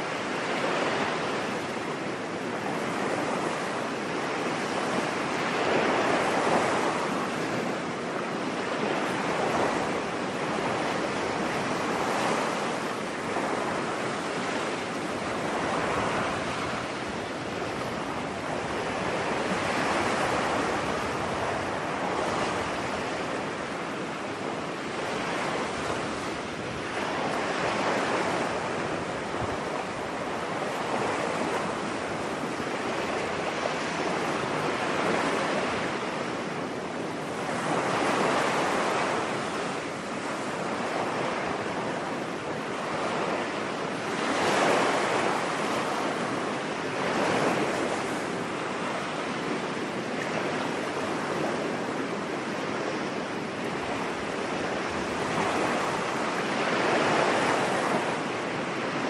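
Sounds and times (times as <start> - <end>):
ocean surf on beach: 0.0 - 59.0.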